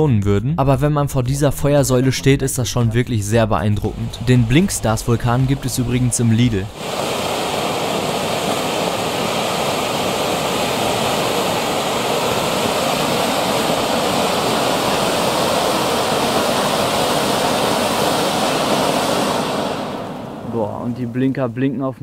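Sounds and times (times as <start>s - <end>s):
firework fountain hissing: 3.2s - 21.2s.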